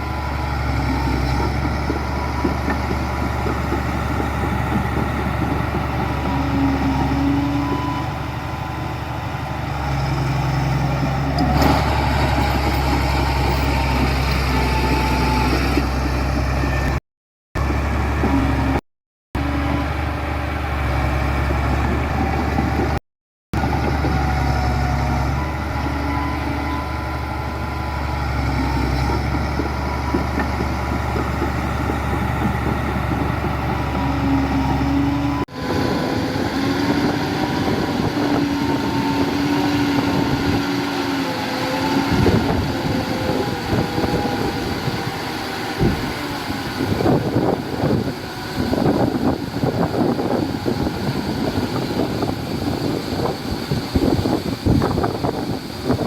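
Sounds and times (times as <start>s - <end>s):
engine knocks and clanks: 0.0s - 17.0s, 17.6s - 18.8s, 19.4s - 23.0s, 23.6s - 56.0s
heavy machinery engines rumbling: 0.0s - 17.0s, 17.6s - 18.8s, 19.4s - 23.0s, 23.6s - 56.0s.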